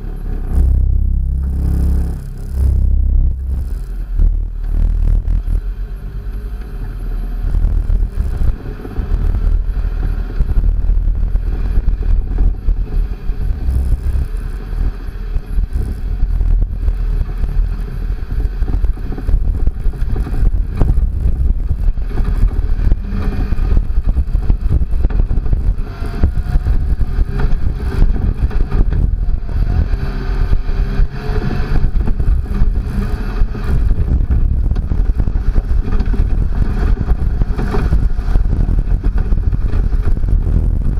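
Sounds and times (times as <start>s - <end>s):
truck engine rumbling: 0.0s - 40.9s.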